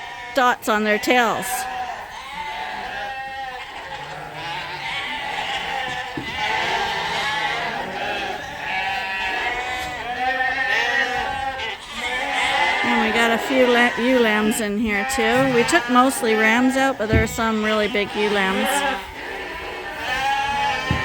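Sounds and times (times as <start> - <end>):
lambs bleating: 0.0 - 21.0.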